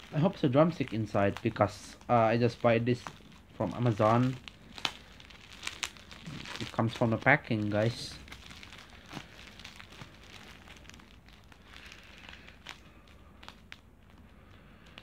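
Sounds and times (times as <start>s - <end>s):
plastic packaging crinkling: 0.0s - 15.0s
small clicks and crackles: 0.0s - 15.0s.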